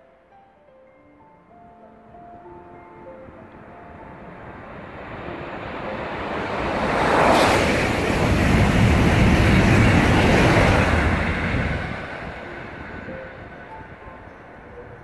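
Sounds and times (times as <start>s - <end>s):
high-speed train rushing past: 2.4s - 15.0s
heavy low rumble of train cars: 2.6s - 15.0s.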